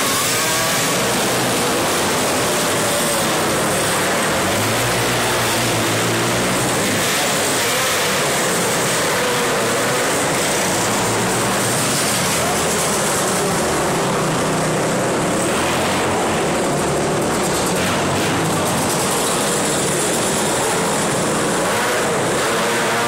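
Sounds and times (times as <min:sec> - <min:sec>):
racing kart engines at high revs: 0:00.0 - 0:23.0.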